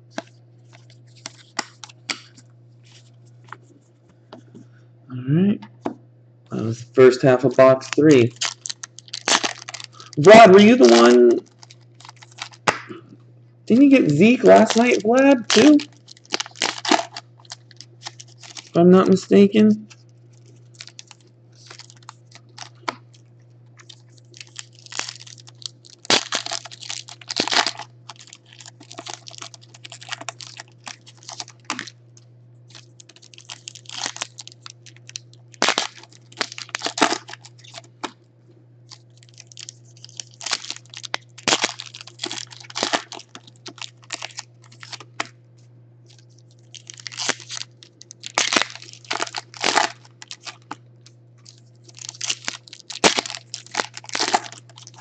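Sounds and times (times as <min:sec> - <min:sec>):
steady low hum: 0:00.0 - 0:55.0
foil packs crinkling and tearing: 0:00.1 - 0:03.1, 0:06.8 - 0:12.9, 0:13.7 - 0:32.0, 0:32.7 - 0:38.2, 0:38.9 - 0:45.3, 0:46.1 - 0:55.0.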